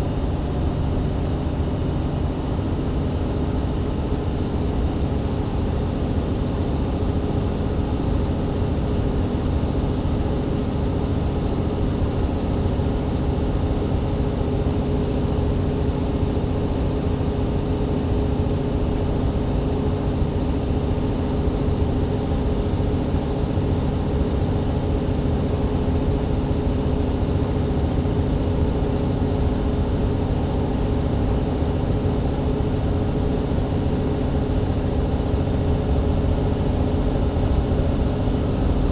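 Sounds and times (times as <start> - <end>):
bus engine drone: 0.0 - 38.9.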